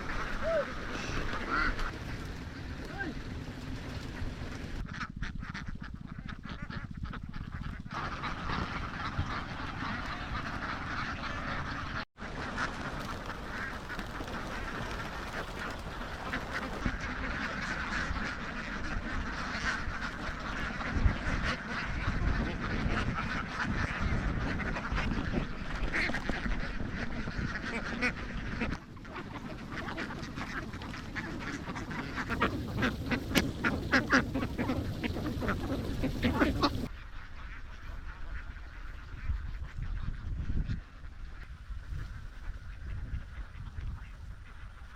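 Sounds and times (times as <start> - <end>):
ducks quacking: 0.0 - 44.9.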